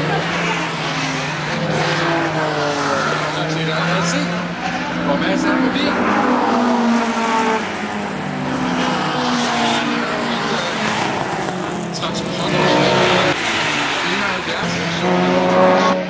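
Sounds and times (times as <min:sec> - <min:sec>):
race car engines running hard: 0:00.0 - 0:16.0.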